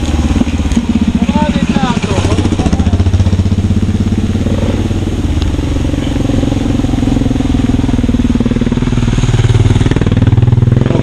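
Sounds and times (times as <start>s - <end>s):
motorcycle approaching: 0.0s - 11.0s
motorcycle engine idling: 0.0s - 11.0s.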